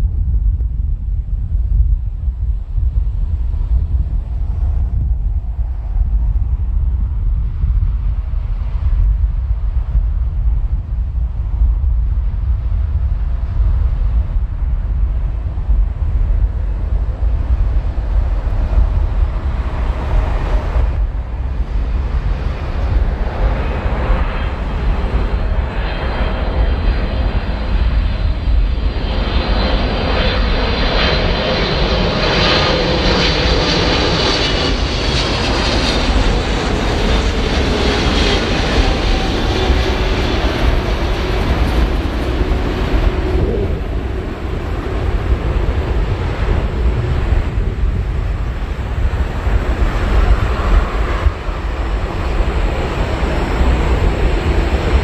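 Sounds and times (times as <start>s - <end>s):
jet engine whine: 0.0s - 55.0s
low rumble: 0.0s - 55.0s.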